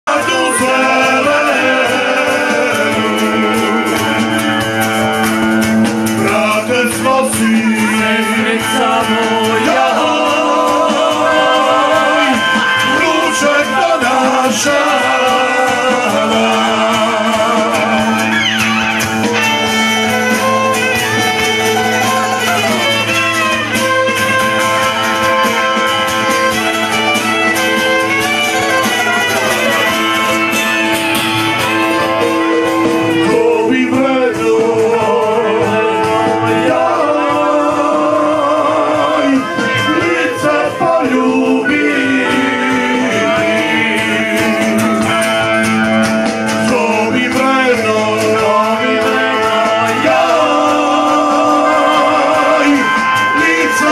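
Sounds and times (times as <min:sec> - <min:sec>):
person singing: 0:00.0 - 0:26.5, 0:27.7 - 0:53.9.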